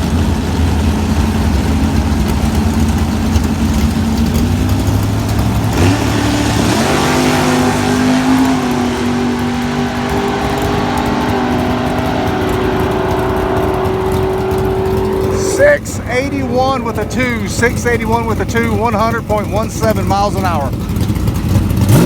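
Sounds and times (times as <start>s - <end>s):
drag car engine roaring: 0.0s - 22.0s.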